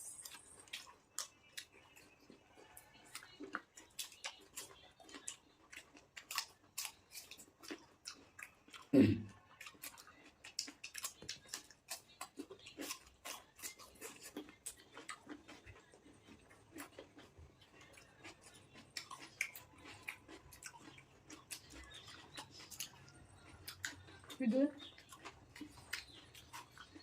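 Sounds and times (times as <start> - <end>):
person chewing fruit: 0.0 - 27.0.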